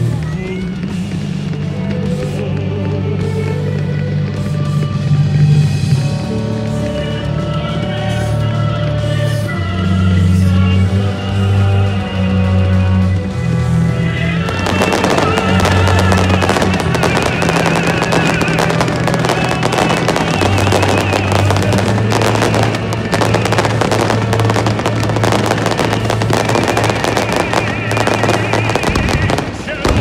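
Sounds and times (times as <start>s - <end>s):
fireworks crackling and banging: 0.0s - 30.0s
music with deep bass: 0.0s - 30.0s.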